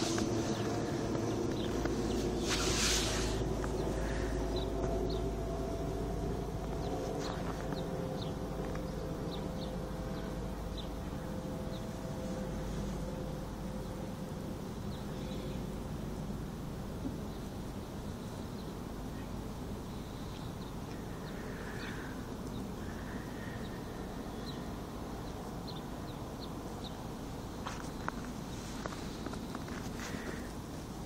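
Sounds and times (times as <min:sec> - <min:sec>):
outdoor background rumble: 0:00.0 - 0:31.0.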